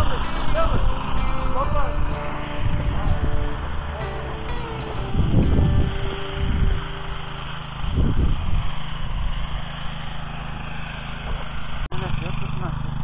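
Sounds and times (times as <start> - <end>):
low rumbles: 0.0 - 13.0
tractor engine running: 0.0 - 13.0.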